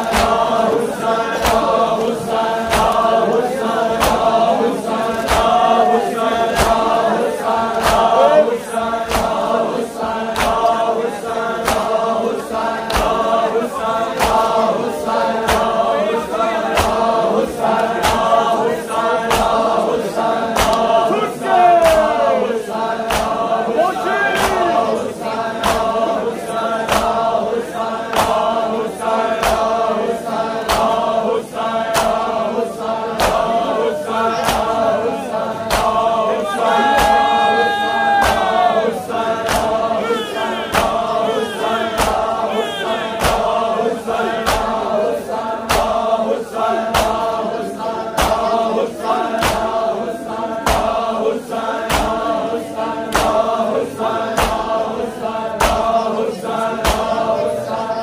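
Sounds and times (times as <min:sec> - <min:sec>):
men beating chests in unison: 0:00.0 - 0:57.3
men chanting: 0:00.0 - 0:58.0.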